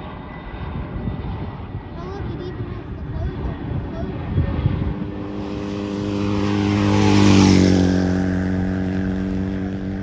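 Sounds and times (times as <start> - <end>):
jet airliner passing overhead: 0.0 - 10.0.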